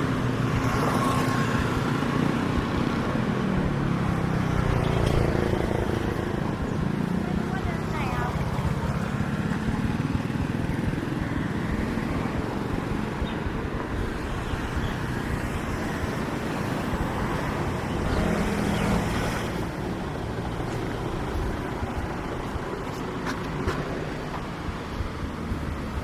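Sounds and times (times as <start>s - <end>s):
motor vehicles passing: 0.0s - 26.0s.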